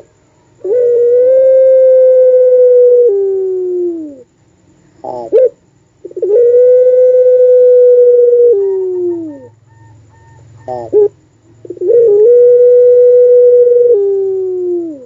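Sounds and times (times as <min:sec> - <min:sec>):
dove howl-like call: 0:00.6 - 0:04.3, 0:05.0 - 0:15.0.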